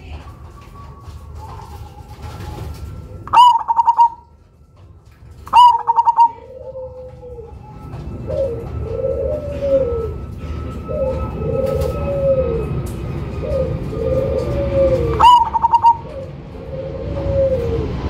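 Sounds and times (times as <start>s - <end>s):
dove cooing: 0.0s - 4.5s, 5.3s - 18.0s.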